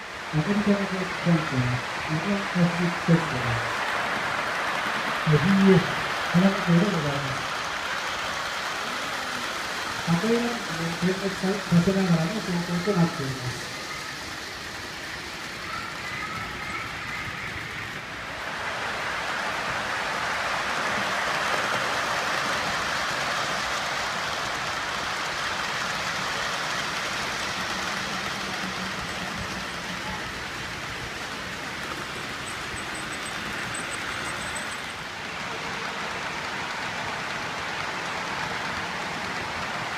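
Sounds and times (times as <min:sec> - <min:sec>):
model train wheels on rails: 0:00.0 - 0:39.9.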